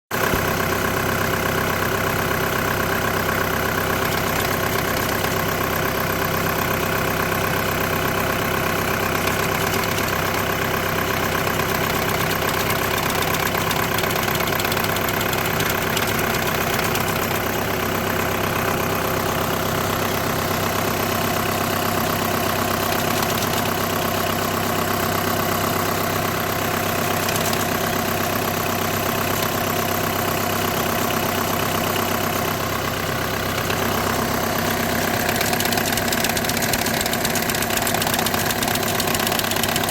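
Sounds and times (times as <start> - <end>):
car engine idling: 0.2 - 39.9.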